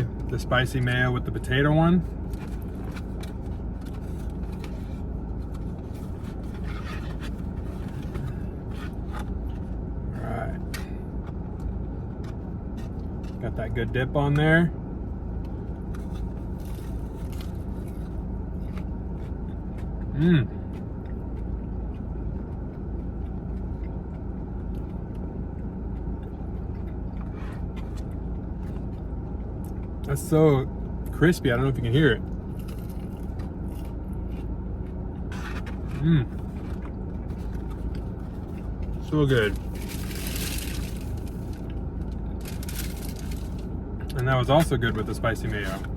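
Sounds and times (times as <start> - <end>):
crunching and chewing: 0.0 - 13.6, 15.1 - 45.9
low rumble: 0.0 - 14.0, 14.6 - 45.9
steady low hum: 0.0 - 45.9.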